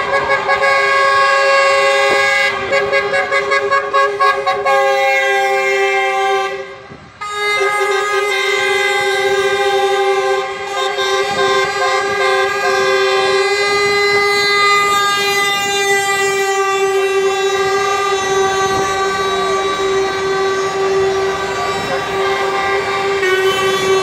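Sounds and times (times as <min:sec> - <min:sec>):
truck air horn blast: 0:00.0 - 0:24.0.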